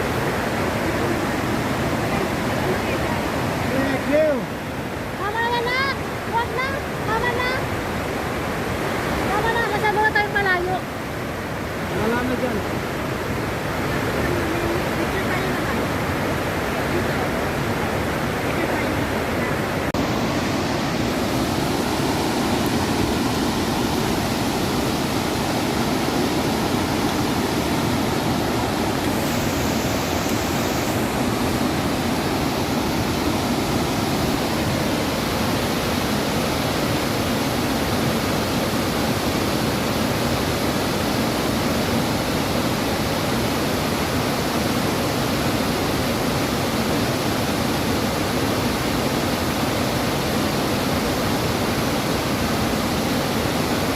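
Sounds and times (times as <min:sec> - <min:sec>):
waterfall roar: 0:00.0 - 0:53.9.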